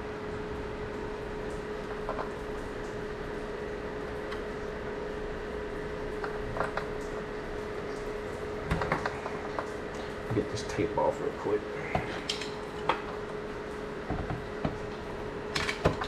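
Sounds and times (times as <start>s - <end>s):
mid-pitched hum: 0.0s - 16.0s.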